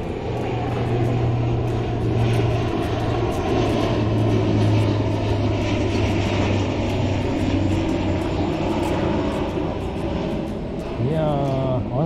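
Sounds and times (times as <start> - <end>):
propeller airliner droning overhead: 0.0 - 12.0.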